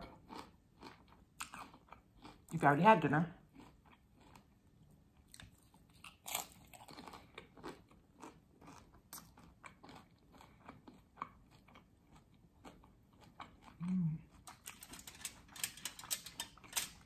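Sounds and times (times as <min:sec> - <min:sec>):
person chewing crispy taco: 0:00.0 - 0:02.5, 0:03.4 - 0:17.0.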